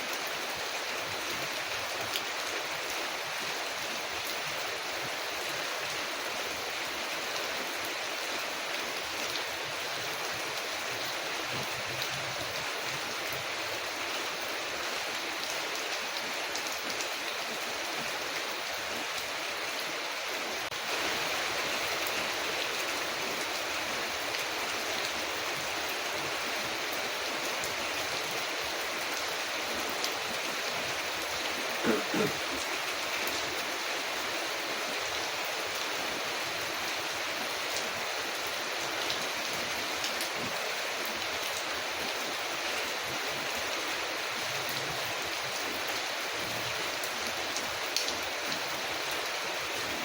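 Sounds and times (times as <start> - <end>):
rain on a window: 0.0 - 50.0.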